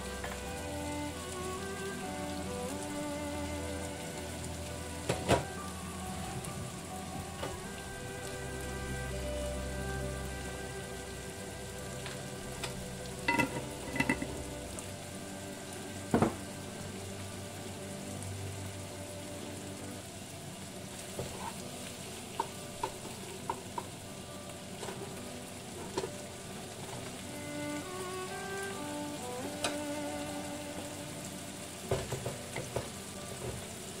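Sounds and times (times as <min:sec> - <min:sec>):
shrimp frying hiss: 0:00.0 - 0:34.0.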